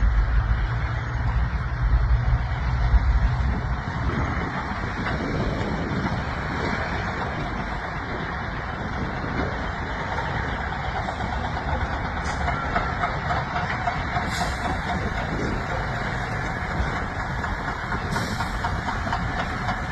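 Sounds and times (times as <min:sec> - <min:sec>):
diesel truck engine running: 0:00.0 - 0:19.9.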